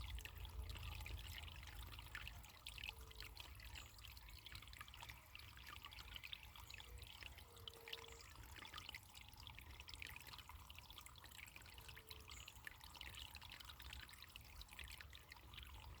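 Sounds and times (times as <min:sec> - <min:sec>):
running water trickling: 0:00.0 - 0:16.0.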